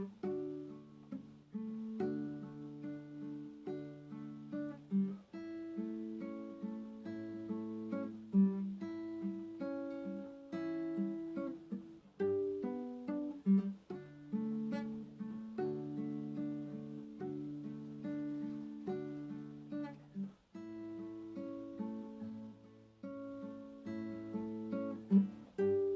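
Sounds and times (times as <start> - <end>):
acoustic guitar playing gently: 0.0 - 25.9.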